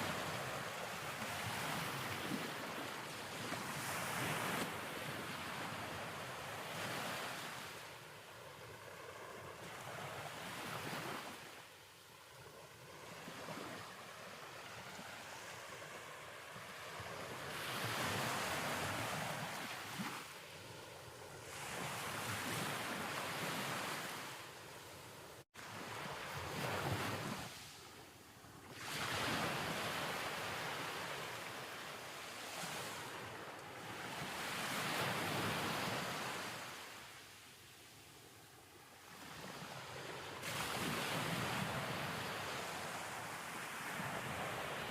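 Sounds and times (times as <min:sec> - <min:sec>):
ocean waves washing in and out: 0:00.0 - 0:44.9.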